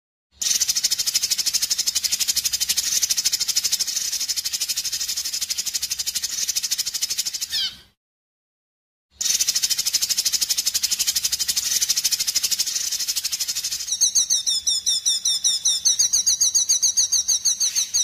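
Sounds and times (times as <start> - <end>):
high-pitched rattling bird trill: 0.4 - 7.9, 9.2 - 18.0.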